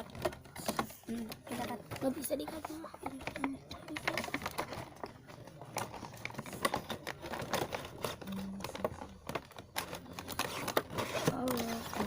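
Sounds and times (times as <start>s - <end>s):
packaging being handled: 0.0s - 12.0s.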